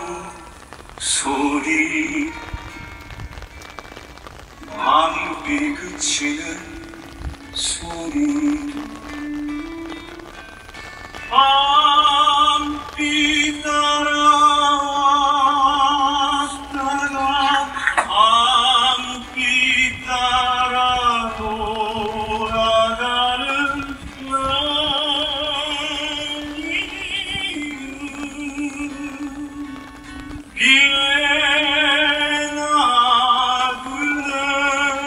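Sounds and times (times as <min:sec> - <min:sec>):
slow ballad melody with vibrato: 0:00.0 - 0:35.0.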